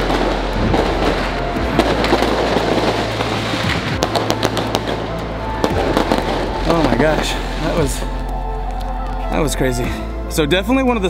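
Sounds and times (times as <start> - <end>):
firecracker cracks: 0.0 - 9.2
fireworks crackling: 0.0 - 9.3.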